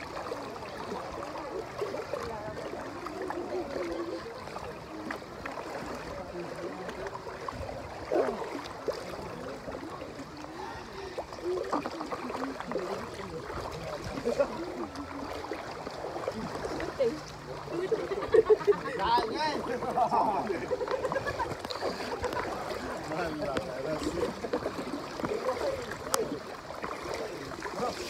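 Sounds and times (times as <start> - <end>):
people's voices: 0.0 - 28.0
water sloshing and splashing: 0.0 - 28.0.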